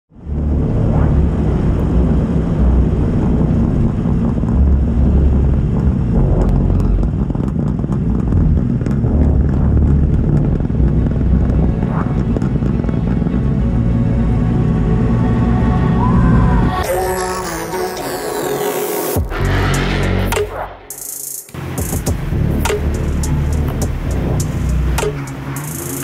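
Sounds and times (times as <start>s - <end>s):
car engine running: 0.1s - 17.1s, 19.2s - 26.0s.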